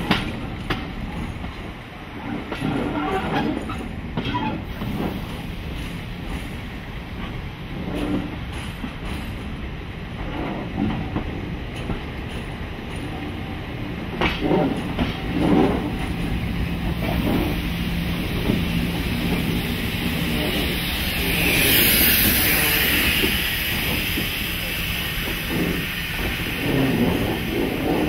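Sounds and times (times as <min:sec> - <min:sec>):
railway wheels clicking over rail joints: 0:00.0 - 0:28.0
train running rumble: 0:00.0 - 0:28.0.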